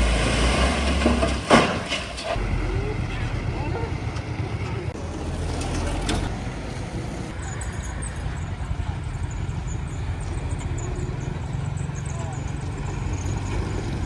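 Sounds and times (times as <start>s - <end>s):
diesel machinery engine rumble: 0.0s - 14.0s.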